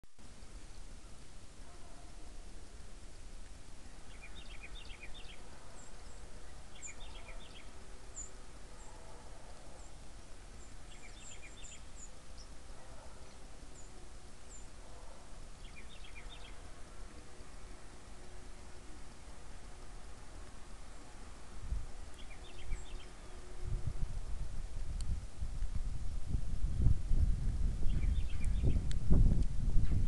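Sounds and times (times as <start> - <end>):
songbirds chirping: 0.2 - 25.8, 27.7 - 29.1.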